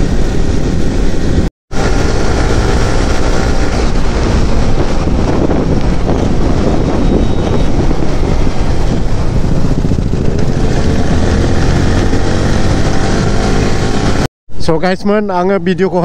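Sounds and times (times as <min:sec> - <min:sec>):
motorcycle engine running: 0:00.0 - 0:14.3
wind rush on microphone: 0:00.0 - 0:14.3.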